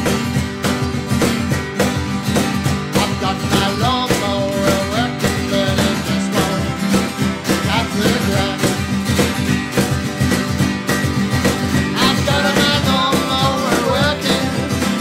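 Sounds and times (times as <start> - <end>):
acoustic guitars strummed: 0.0 - 15.0
cajon beat: 0.0 - 15.0.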